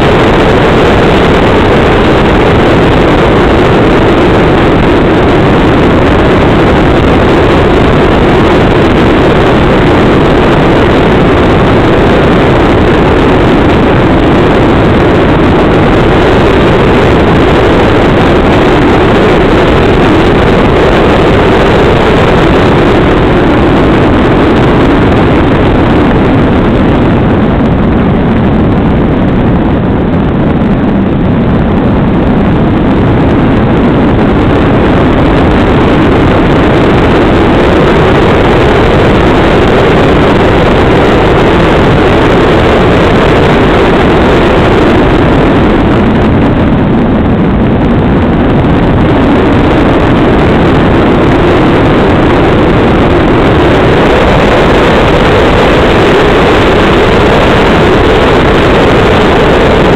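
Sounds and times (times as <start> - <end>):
airflow over camera: 0.0 - 59.9
propeller drive droning: 0.0 - 59.9.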